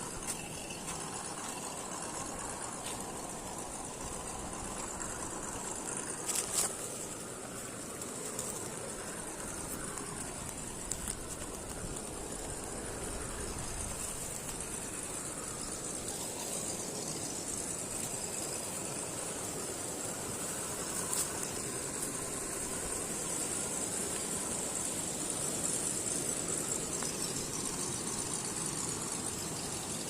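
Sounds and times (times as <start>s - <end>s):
rc car motor whirring: 0.0s - 30.0s.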